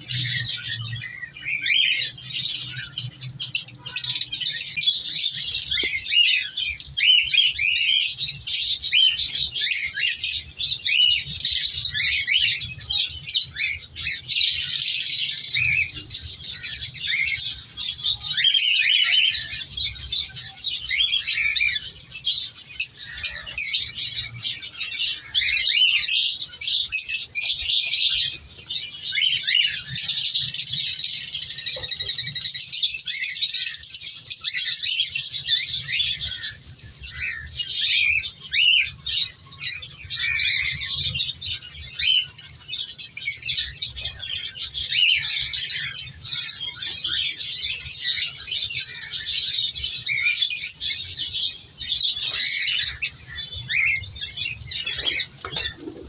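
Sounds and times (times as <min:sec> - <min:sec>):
cockatiels chirping: 0:00.0 - 0:56.0.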